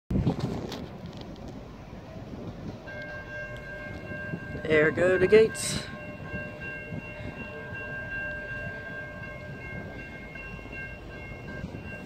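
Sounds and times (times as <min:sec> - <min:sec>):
freight train rumble: 0:00.1 - 0:12.0
railroad crossing bell ringing: 0:02.0 - 0:12.0.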